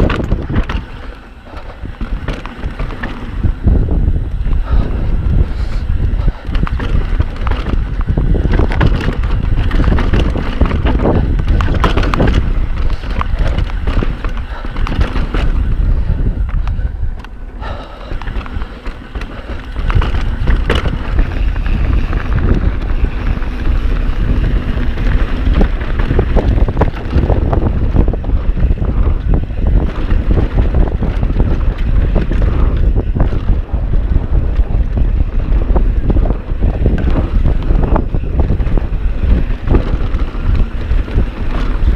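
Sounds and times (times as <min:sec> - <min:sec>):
bike rattling and knocking: 0:00.0 - 0:41.9
bike tyre roar: 0:00.0 - 0:41.9
wind buffeting microphone: 0:00.0 - 0:41.9.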